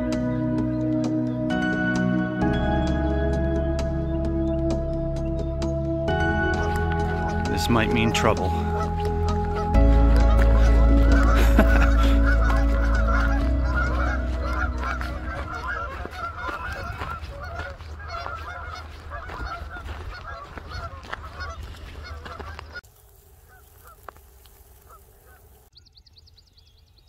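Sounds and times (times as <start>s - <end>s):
geese honking: 0.0s - 25.7s.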